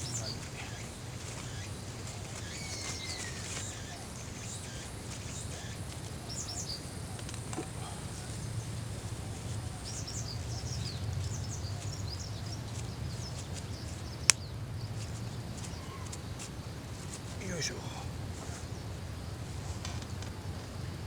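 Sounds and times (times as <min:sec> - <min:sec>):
small birds chirping: 0:00.0 - 0:20.2.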